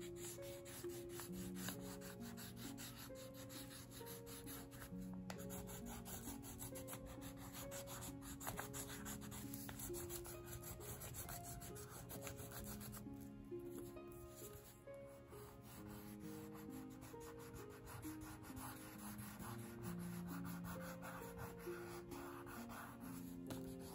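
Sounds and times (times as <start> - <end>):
crayon scribbling on paper: 0.0 - 13.0, 13.7 - 14.8, 15.4 - 23.9
soft background music: 0.0 - 23.9.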